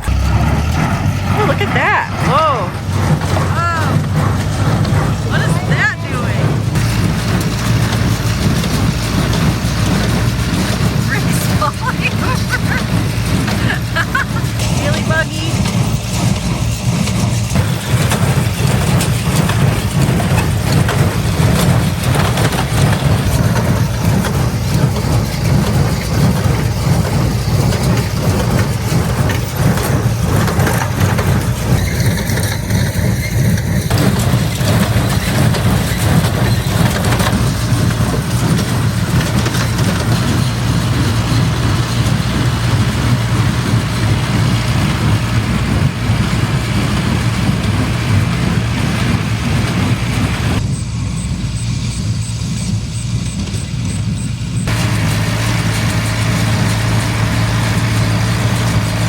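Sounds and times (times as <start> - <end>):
hay baler mechanism working: 0.0 - 59.0
tractor engine running: 0.0 - 59.0.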